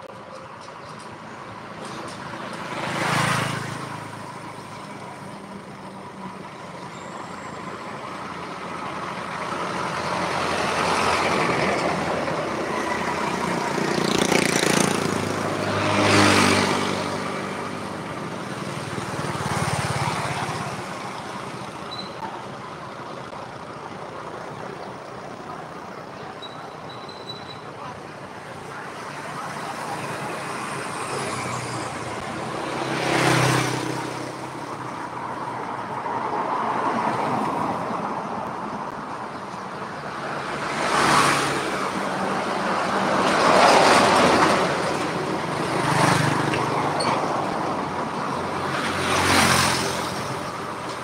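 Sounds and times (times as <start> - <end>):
background traffic noise: 0.0 - 51.0
vehicles driving past: 0.0 - 51.0.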